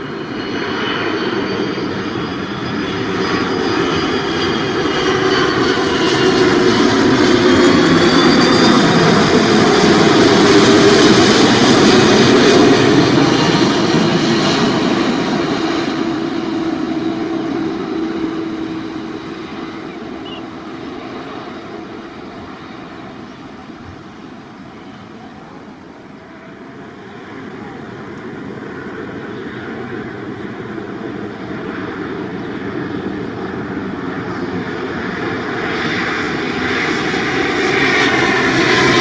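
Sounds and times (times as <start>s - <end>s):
airliner jet engines overhead: 0.0s - 39.0s.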